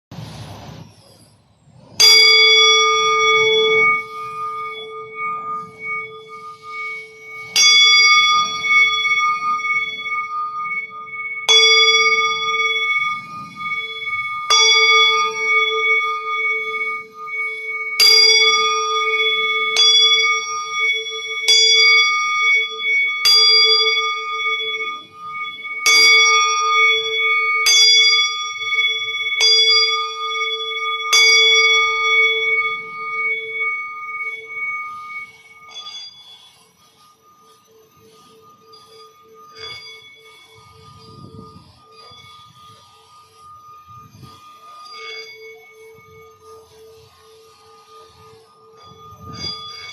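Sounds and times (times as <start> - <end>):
low pulsing hum: 0.1 - 35.9, 36.6 - 49.9
singing bowl ringing: 1.8 - 49.9.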